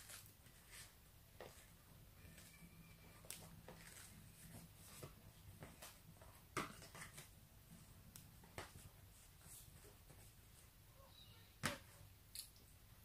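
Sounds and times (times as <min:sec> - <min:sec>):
tortilla rustling: 0:00.0 - 0:10.6.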